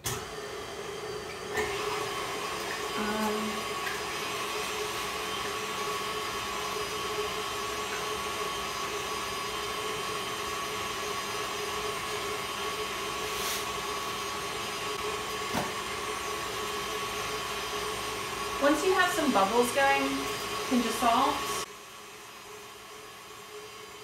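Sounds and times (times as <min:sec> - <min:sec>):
stand mixer whirring: 0:00.0 - 0:24.0.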